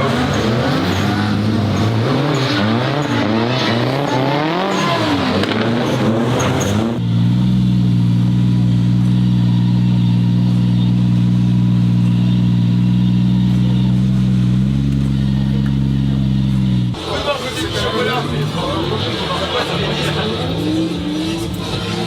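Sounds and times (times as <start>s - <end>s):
car engine revving hard: 0.0s - 22.0s.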